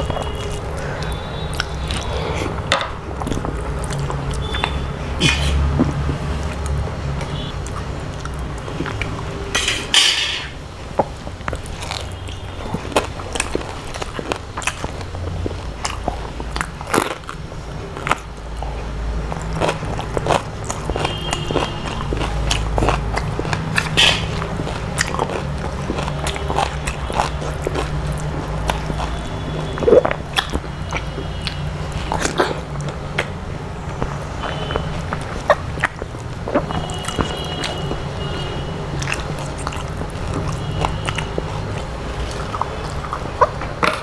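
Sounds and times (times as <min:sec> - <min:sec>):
wet chewing and mouth clicks: 0:00.0 - 0:44.0.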